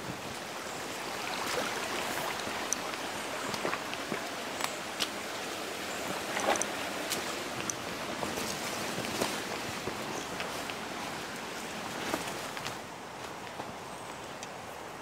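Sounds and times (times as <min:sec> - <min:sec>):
stream trickling over stones: 0:00.0 - 0:12.9
footsteps on stones and twigs: 0:01.1 - 0:14.2.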